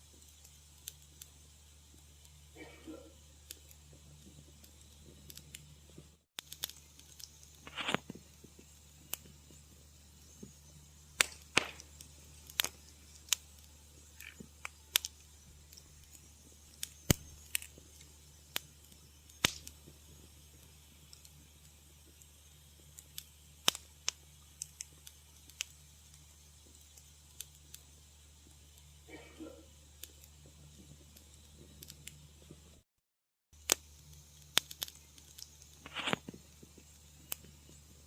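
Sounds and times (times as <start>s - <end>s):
low steady hum: 0.0s - 32.8s
wood fire crackling: 0.0s - 32.8s, 33.6s - 38.0s.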